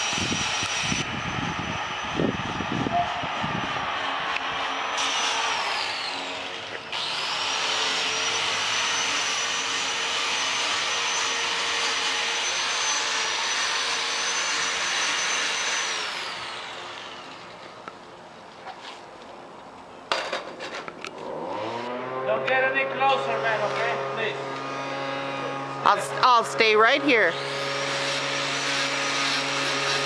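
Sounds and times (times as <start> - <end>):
power tool motor whining: 0.0 - 17.6, 23.2 - 30.0.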